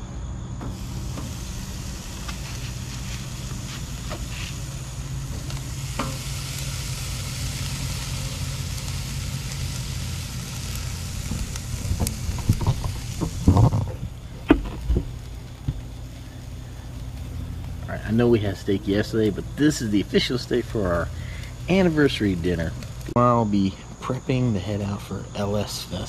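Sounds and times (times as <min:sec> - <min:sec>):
low hum: 0:00.0 - 0:26.0
steaks sizzling on a grill: 0:00.6 - 0:23.3.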